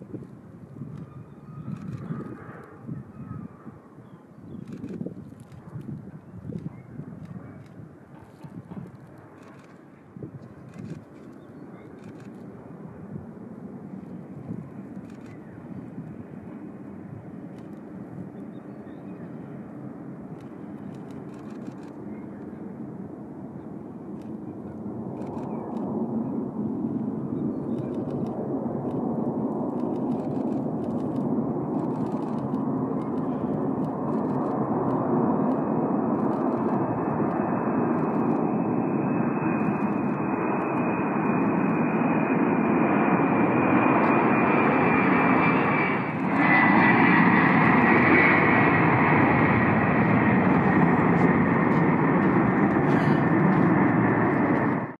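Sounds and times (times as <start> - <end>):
jet engine rumble: 0.0 - 55.0.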